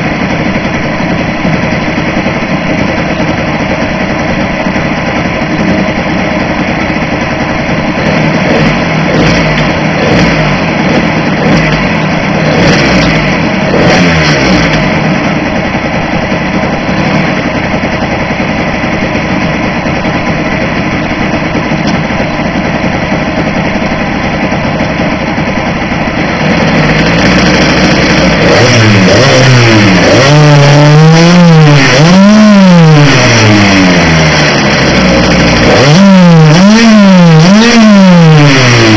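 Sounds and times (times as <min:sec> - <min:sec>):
small two-stroke engine revving: 0:00.0 - 0:38.9.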